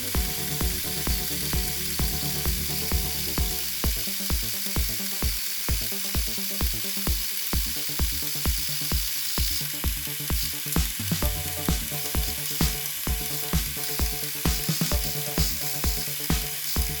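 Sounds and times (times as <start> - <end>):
background music with steady beat: 0.0 - 17.0
welding arc crackling: 0.0 - 17.0.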